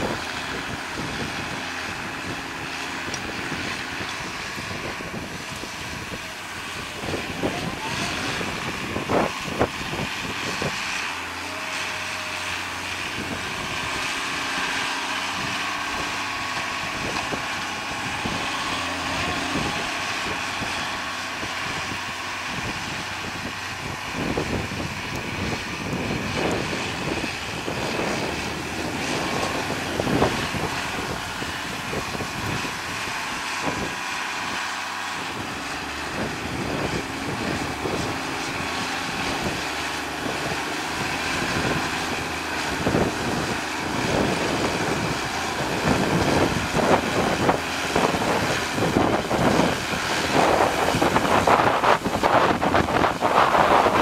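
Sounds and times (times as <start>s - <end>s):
tractor diesel engine running: 0.0s - 54.0s
wind buffeting microphone: 0.0s - 54.0s.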